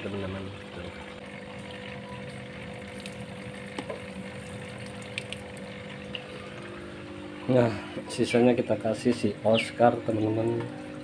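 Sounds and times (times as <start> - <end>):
low steady hum: 0.0 - 11.0
water trickling into tank: 0.0 - 11.0.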